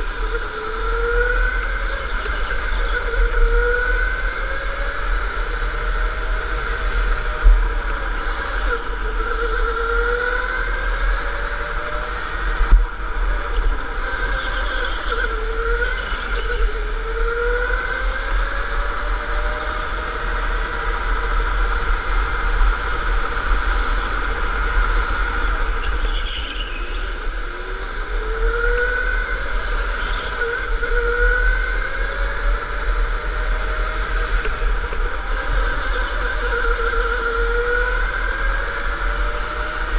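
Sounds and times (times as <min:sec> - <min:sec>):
electric go-kart motor whining: 0:00.0 - 0:39.9.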